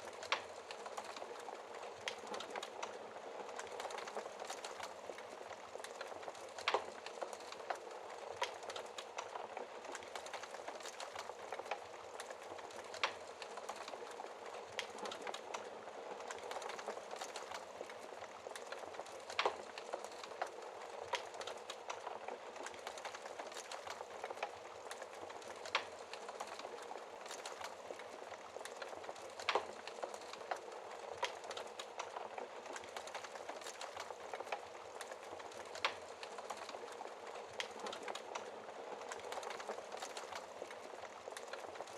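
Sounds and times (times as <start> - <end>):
fire snapping: 0.0 - 41.9
wood fire crackling and hissing: 0.0 - 41.9.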